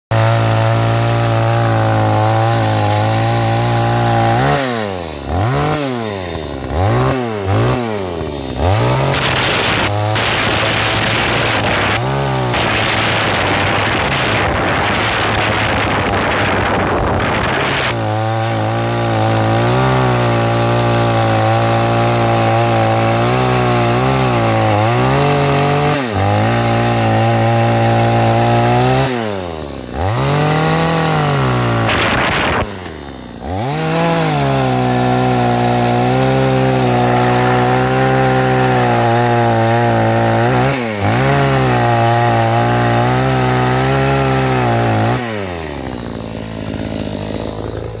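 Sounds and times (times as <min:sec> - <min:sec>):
chainsaw cutting logs: 0:00.1 - 0:48.0.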